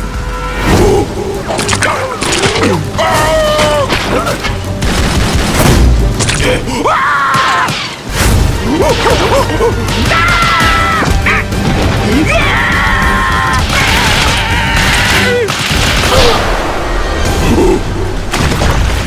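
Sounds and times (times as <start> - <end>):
background music: 0.0 - 19.0
cartoon hail and rain: 0.0 - 19.0.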